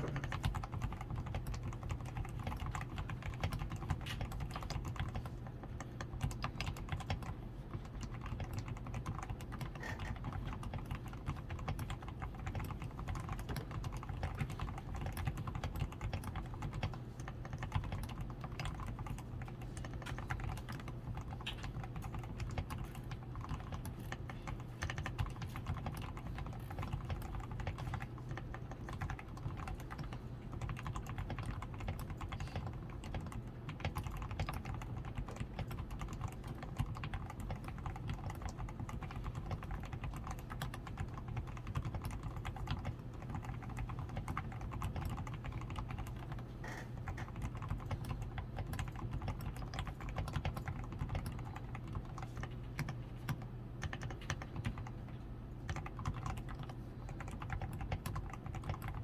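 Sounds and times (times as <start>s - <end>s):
typing on mechanical keyboard: 0.0s - 59.0s.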